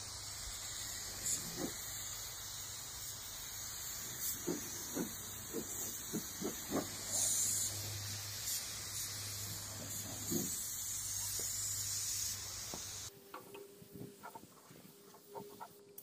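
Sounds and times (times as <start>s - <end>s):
air spray gun hissing: 0.0s - 13.1s.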